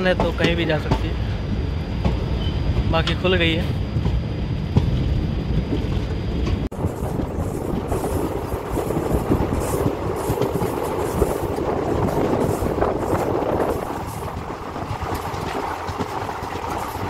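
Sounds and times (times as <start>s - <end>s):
train wheels rattling: 0.0s - 17.0s.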